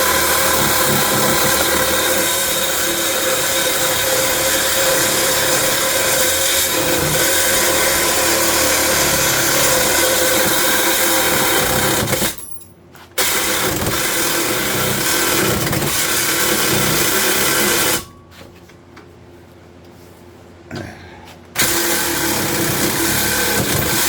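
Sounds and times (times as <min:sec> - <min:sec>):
reciprocating saw cutting metal pipe: 0:00.0 - 0:12.4, 0:13.2 - 0:18.1, 0:21.6 - 0:24.0.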